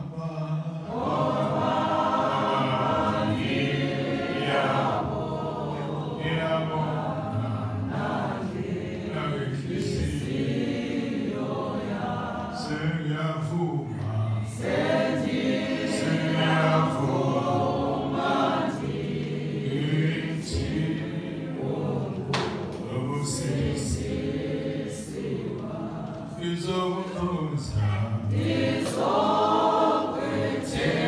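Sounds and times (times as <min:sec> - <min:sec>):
women singing a hymn: 0:00.8 - 0:12.9, 0:14.2 - 0:26.5, 0:28.2 - 0:31.0.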